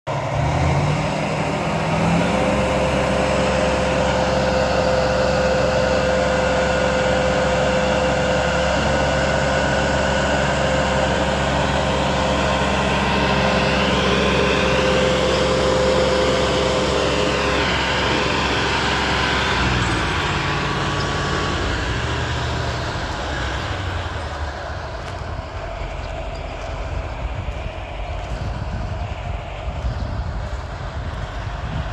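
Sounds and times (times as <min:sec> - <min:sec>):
heavy diesel engine revving: 0:00.1 - 0:31.9.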